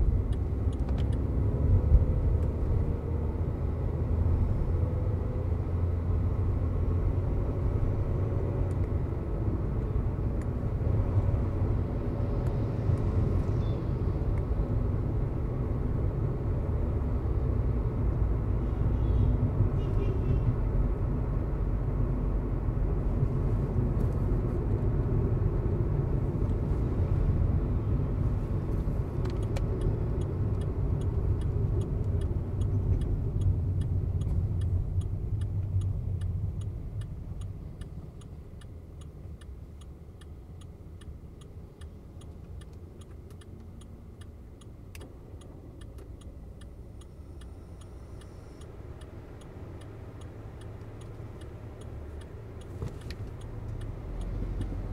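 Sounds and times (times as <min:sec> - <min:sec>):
car engine and road rumble: 0:00.0 - 0:54.9
turn signal ticking: 0:00.0 - 0:54.9.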